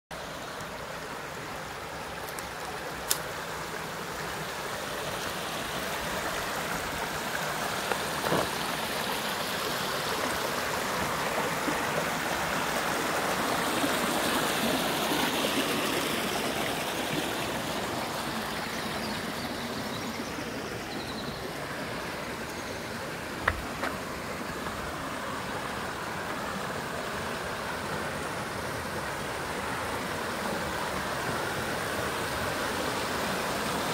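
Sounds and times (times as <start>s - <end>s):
creek water running over rocks: 0.1s - 33.9s.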